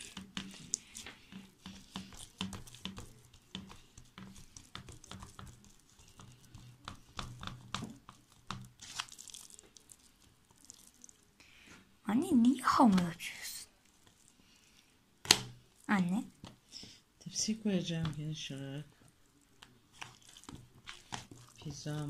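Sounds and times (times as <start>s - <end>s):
hands patting dough: 0.0s - 11.4s, 15.2s - 22.0s.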